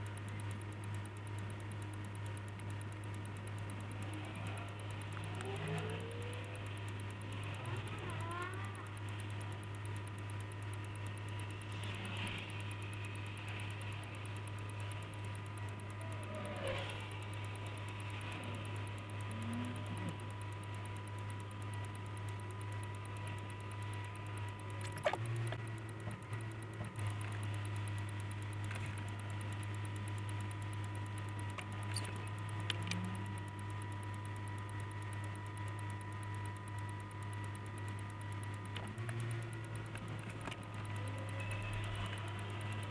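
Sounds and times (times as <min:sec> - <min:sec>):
low hum inside car: 0:00.0 - 0:42.9
sharp click: 0:00.0 - 0:42.9.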